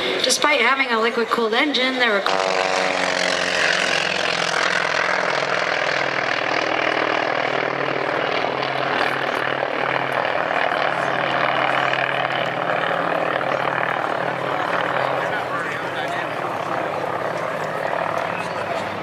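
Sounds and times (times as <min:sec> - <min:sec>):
propeller plane flying past: 0:00.0 - 0:19.0.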